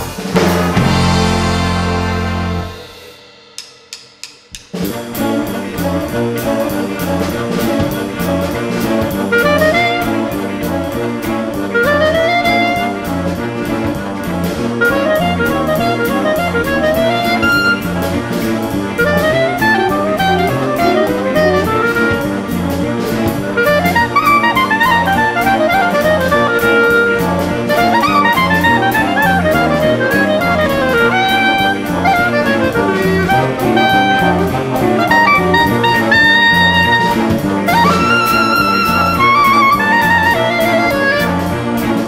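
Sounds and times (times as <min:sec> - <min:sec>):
jazz big band: 0:00.0 - 0:03.5, 0:04.7 - 0:42.0
drum kit cymbal beat: 0:00.0 - 0:42.0
solo clarinet playing quick runs: 0:07.6 - 0:42.0.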